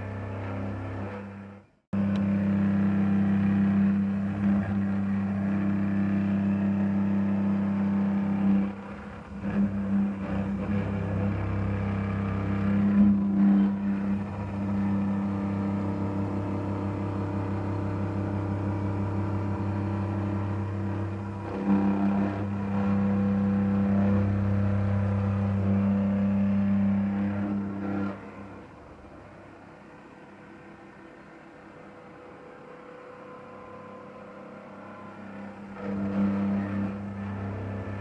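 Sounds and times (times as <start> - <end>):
milling machine cutting steel: 0.0 - 29.0, 32.0 - 38.0.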